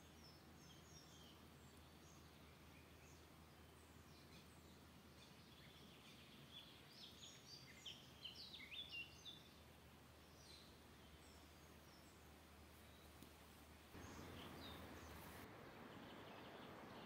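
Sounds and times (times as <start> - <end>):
low background hiss: 0.0 - 17.0
songbird chirping: 0.0 - 17.0.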